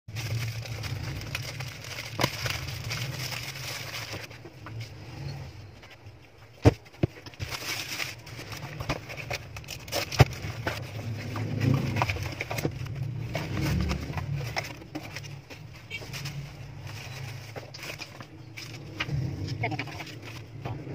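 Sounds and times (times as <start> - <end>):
plastic and bubble wrap rustling: 0.1 - 20.9.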